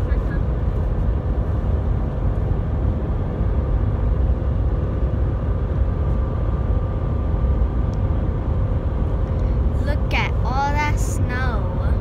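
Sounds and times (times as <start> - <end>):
faint steady hum: 0.0 - 12.0
road and engine rumble: 0.0 - 12.0.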